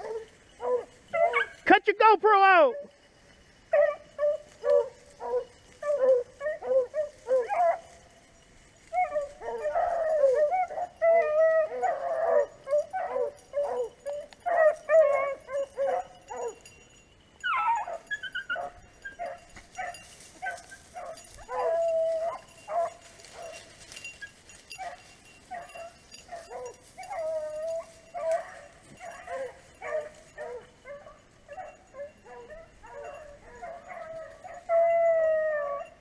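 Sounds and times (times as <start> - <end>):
dogs baying and barking: 0.0 - 1.7, 2.5 - 36.0.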